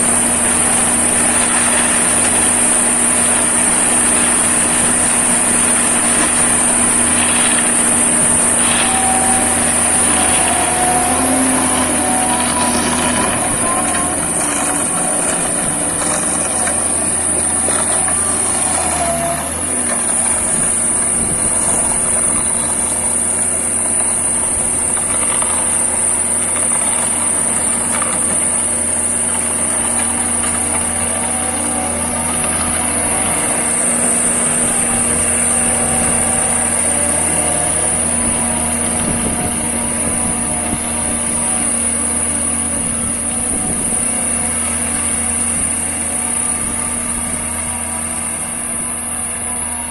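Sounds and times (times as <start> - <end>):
concrete mixer engine running: 0.0 - 49.9
high whine: 0.0 - 49.9.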